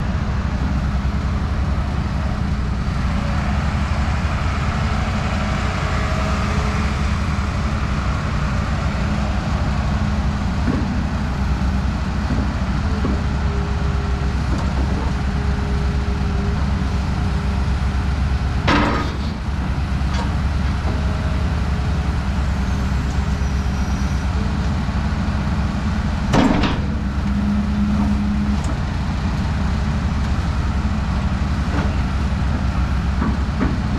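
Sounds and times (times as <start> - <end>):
excavator diesel engine droning: 0.0 - 33.9.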